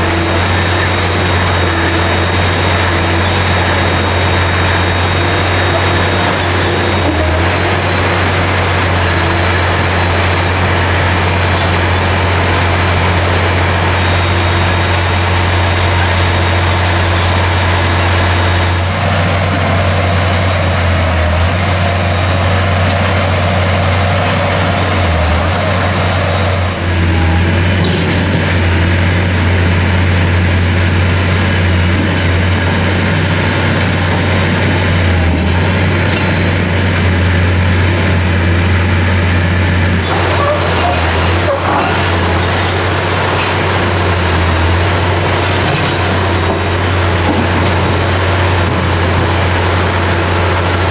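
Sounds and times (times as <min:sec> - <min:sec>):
excavator diesel engine droning: 0:00.0 - 0:50.9.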